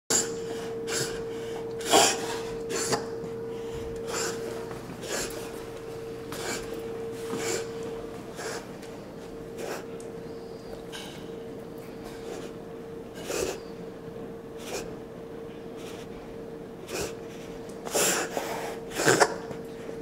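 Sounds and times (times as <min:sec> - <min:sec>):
dog breathing heavily: 0:00.1 - 0:20.0.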